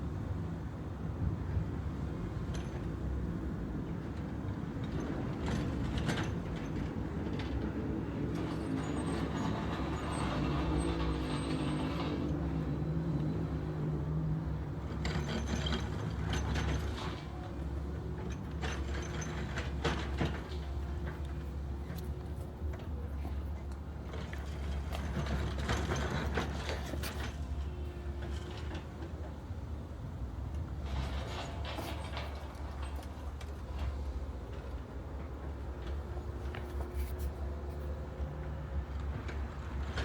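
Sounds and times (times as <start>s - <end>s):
heavy engine running: 3.7s - 40.0s.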